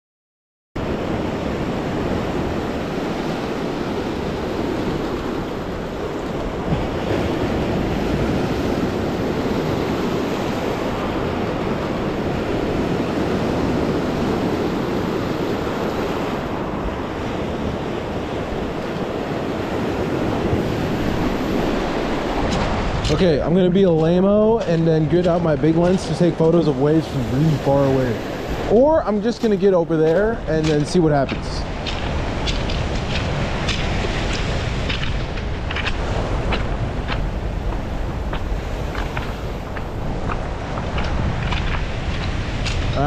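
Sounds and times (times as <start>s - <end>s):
surf washing onto cobble beach: 0.8s - 43.0s.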